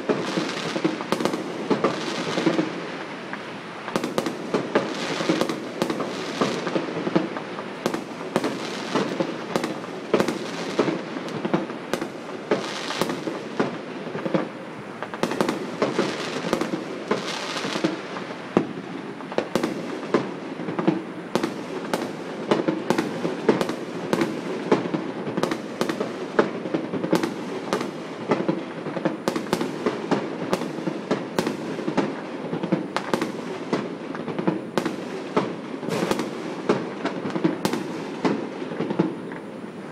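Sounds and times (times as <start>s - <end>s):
fireworks bangs and pops: 0.0s - 39.9s.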